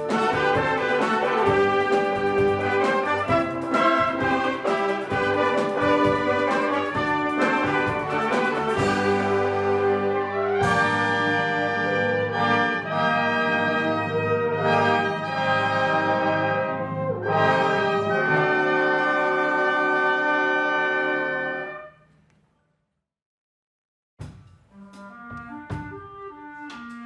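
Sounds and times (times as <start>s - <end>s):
wind orchestra playing chords: 0.0s - 21.8s.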